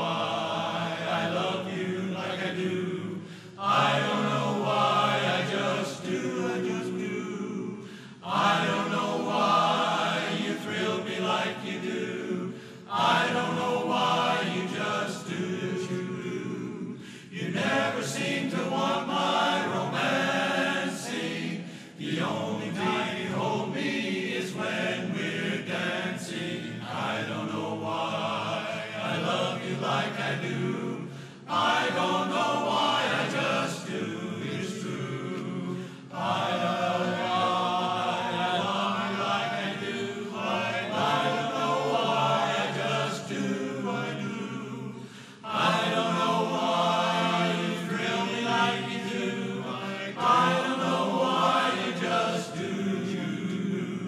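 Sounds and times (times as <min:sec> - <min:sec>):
men's chorus singing a cappella: 0:00.0 - 0:54.0.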